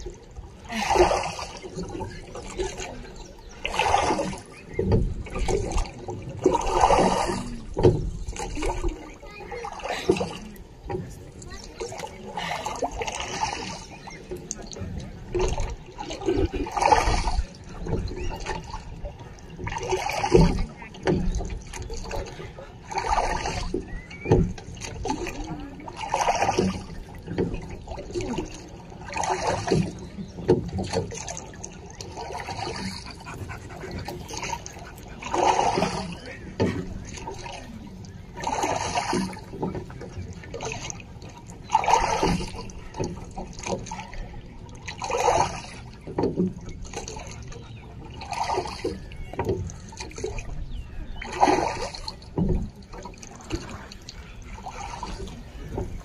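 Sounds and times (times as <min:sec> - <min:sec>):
water gushing surge: 0:00.0 - 0:44.1, 0:44.9 - 0:46.2.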